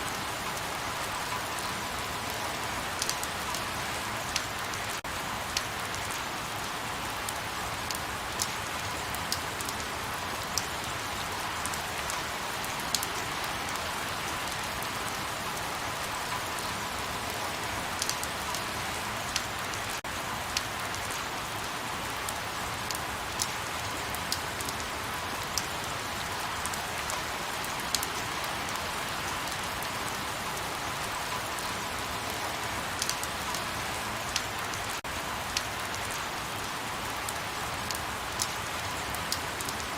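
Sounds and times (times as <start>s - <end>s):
rain drips ticking: 0.0s - 39.9s.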